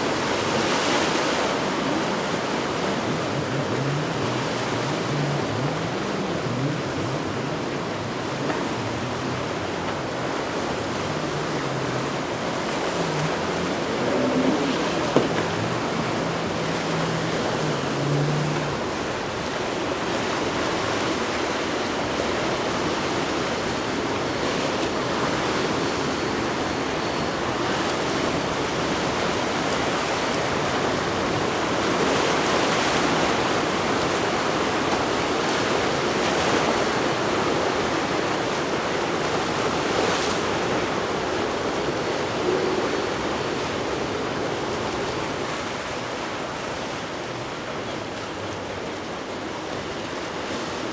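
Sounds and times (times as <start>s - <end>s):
water rushing: 0.0s - 50.9s
wind: 0.0s - 50.9s.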